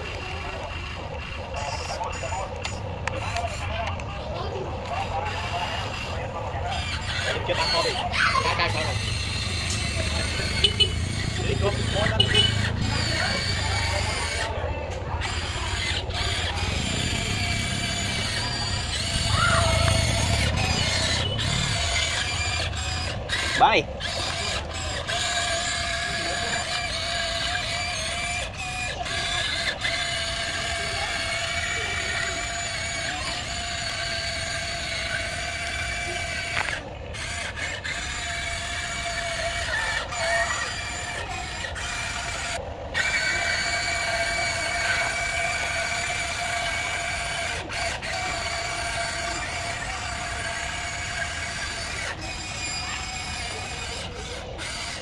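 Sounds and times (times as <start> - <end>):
toy excavator motors whining: 0.0 - 55.0.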